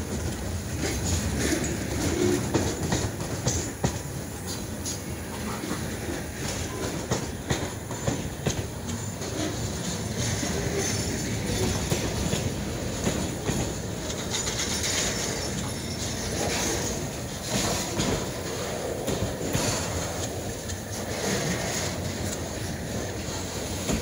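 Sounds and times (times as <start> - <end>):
freight train rumble: 0.0 - 24.0
wheels clacking over rail joints: 0.0 - 24.0.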